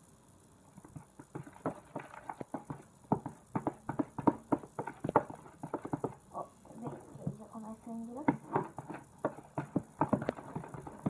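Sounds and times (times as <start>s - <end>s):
spoon stirring sticky slime: 0.8s - 7.1s, 8.2s - 11.0s.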